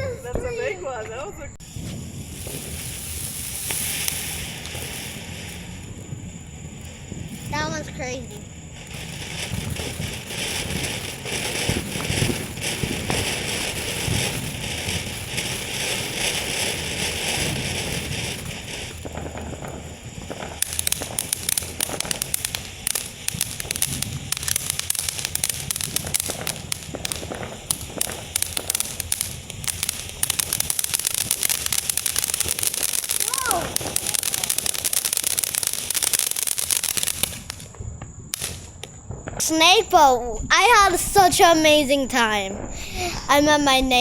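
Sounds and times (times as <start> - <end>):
fireworks crackling: 0.0 - 44.0
fireworks hissing spray: 0.0 - 44.0.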